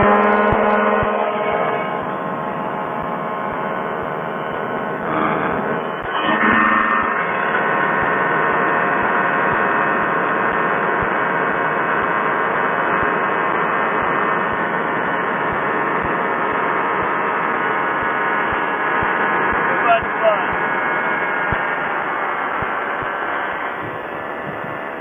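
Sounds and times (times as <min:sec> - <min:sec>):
ultralight engine and propeller drone: 0:00.0 - 0:25.0.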